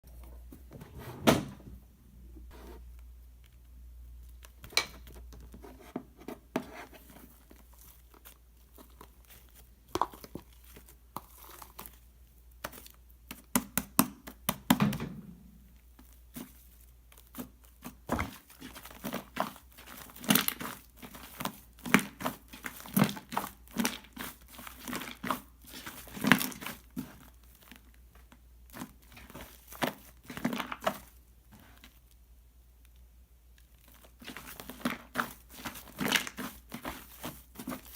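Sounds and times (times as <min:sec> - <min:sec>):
crinkling and crackling handling: 0:02.5 - 0:13.5, 0:15.4 - 0:37.9.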